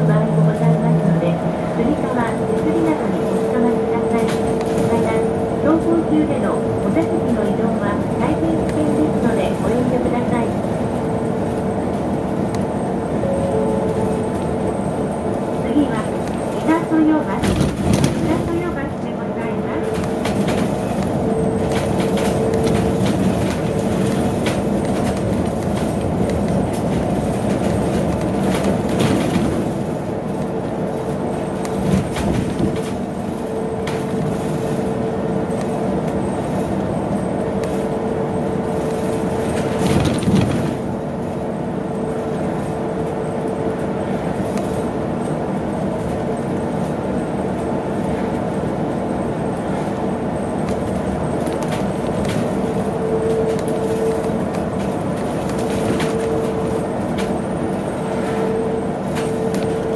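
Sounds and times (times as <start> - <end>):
road and tyre rumble: 0.0 - 59.9.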